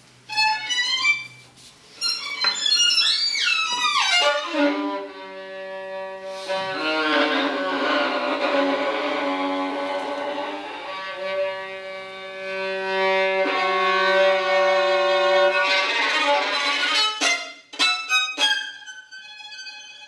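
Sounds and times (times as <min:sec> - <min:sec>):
solo violin playing: 0:00.3 - 0:01.4, 0:02.0 - 0:20.0.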